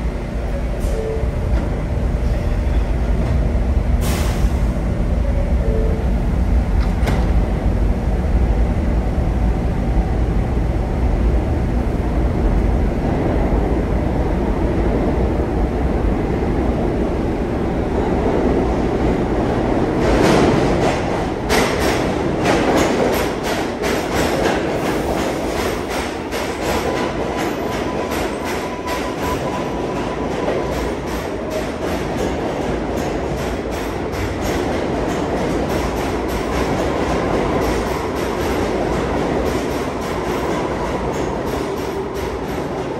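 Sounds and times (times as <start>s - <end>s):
train low rumble: 0.0s - 42.9s.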